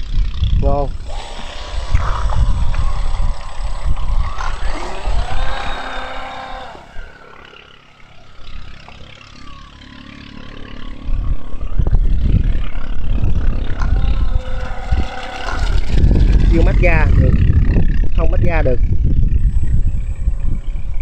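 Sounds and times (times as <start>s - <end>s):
electric motor and propeller whine: 0.0s - 21.0s.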